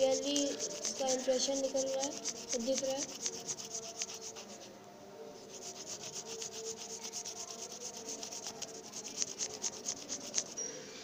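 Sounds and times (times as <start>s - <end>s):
pencil scratching on paper: 0.0s - 4.7s, 5.4s - 10.6s.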